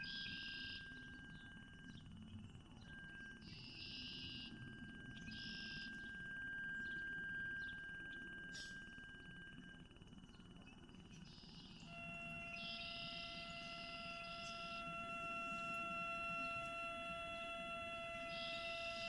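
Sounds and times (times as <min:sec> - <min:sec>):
electronic instrument sustained tones: 0:00.0 - 0:19.0.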